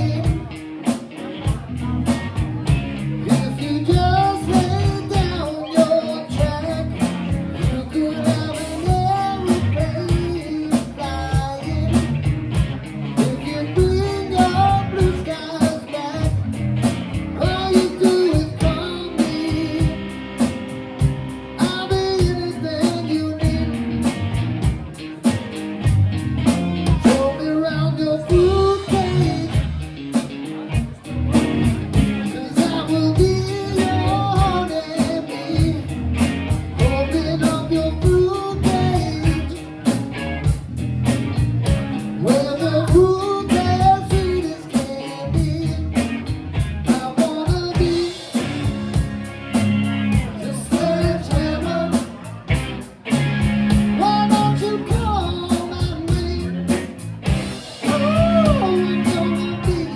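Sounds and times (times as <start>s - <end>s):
person singing: 0.0s - 16.6s, 17.2s - 20.8s, 21.5s - 24.9s, 26.8s - 40.6s, 42.0s - 52.7s, 53.7s - 59.9s
drum kit: 0.0s - 27.5s, 28.2s - 59.9s
guitar: 0.0s - 59.9s.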